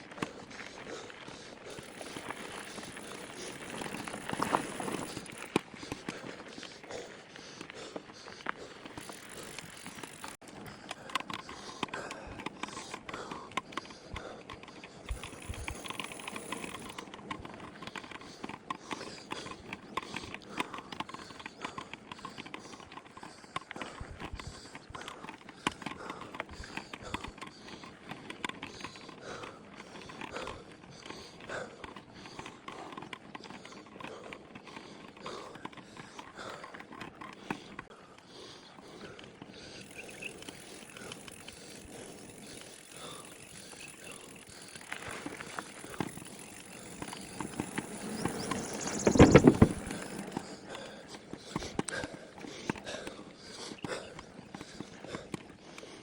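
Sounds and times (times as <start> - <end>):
mountain bike clattering over rocks: 0.0 - 37.8, 39.2 - 56.0.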